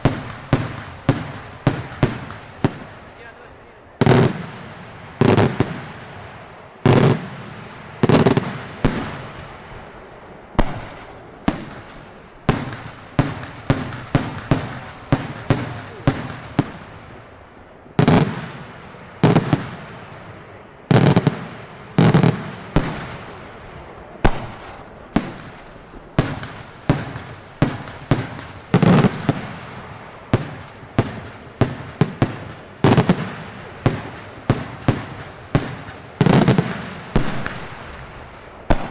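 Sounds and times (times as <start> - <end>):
fireworks bangs echoing: 0.0 - 38.9.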